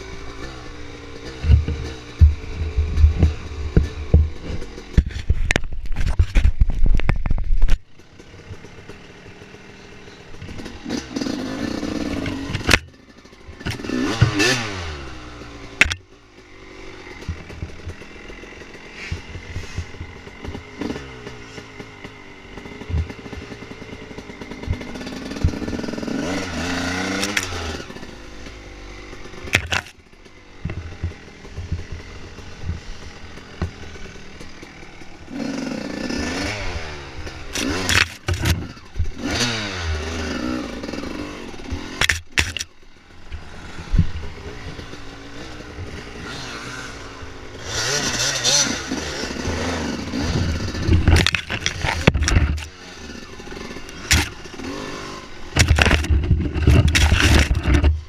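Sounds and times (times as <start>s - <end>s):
dirt bike engine revving: 0.0s - 5.8s, 7.9s - 58.0s.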